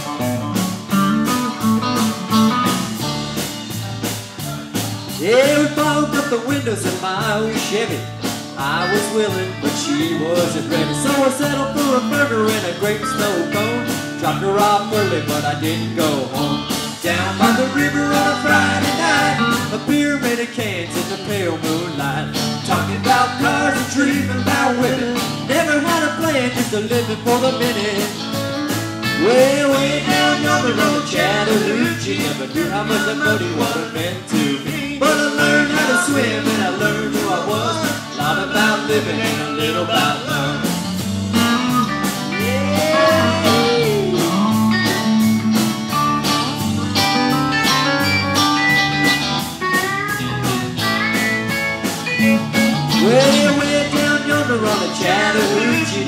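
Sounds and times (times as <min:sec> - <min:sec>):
country-rock band playing: 0:00.0 - 0:56.0.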